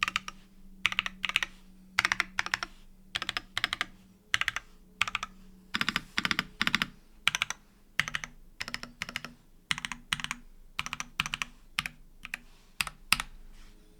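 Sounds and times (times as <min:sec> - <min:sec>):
typing on mechanical keyboard: 0:00.0 - 0:13.3.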